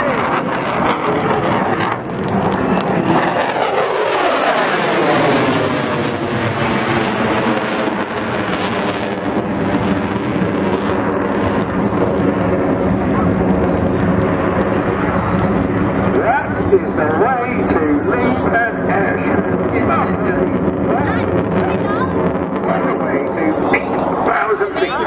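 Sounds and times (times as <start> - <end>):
jet aircraft flying past: 0.0 - 25.0.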